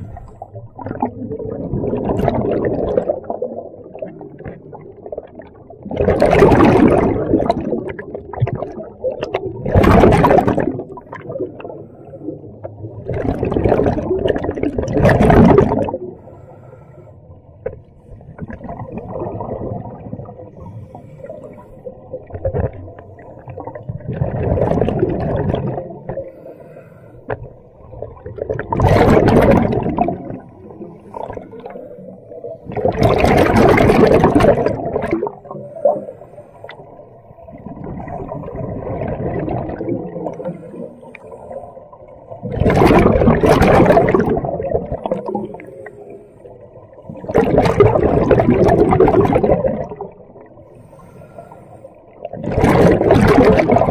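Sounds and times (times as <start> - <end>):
exhaled bubbles gurgling: 0.0 - 16.4, 17.2 - 53.9.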